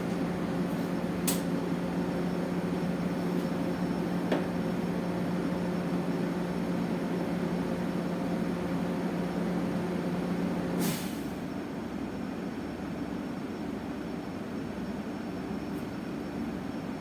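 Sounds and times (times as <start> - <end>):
bus machinery drone: 0.0 - 17.0
bus running noise: 0.0 - 17.0.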